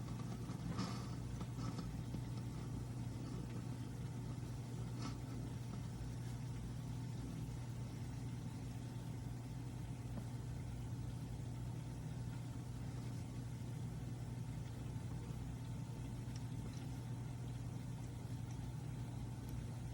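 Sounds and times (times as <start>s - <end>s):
espresso machine humming: 0.0s - 19.9s.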